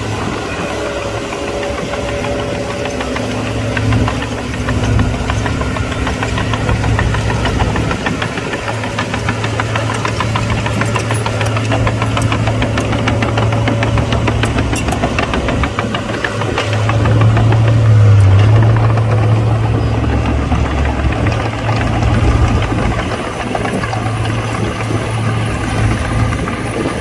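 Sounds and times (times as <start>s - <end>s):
diesel engine running: 0.0s - 27.0s
rapid metallic clattering: 0.0s - 27.0s.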